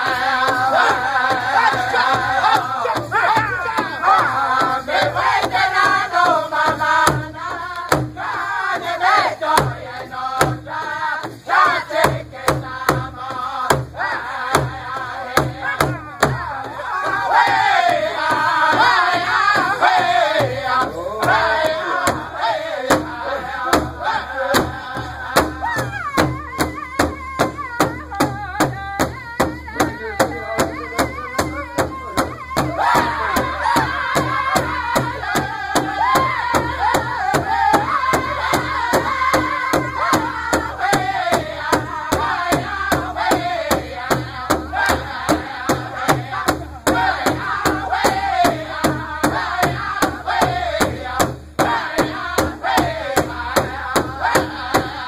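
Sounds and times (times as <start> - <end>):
group singing high-pitched voices: 0.0 - 55.0
large hide drum steady beat: 0.0 - 55.0.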